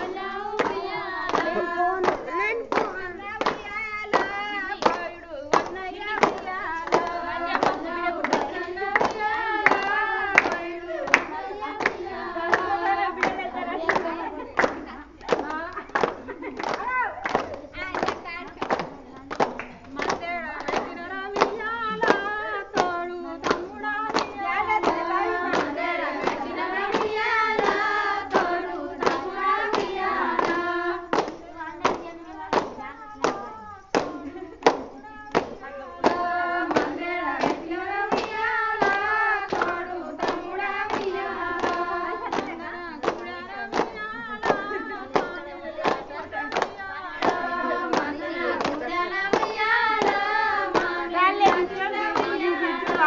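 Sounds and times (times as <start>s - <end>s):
hand claps: 0.0s - 53.0s
women singing folk song: 0.0s - 53.0s.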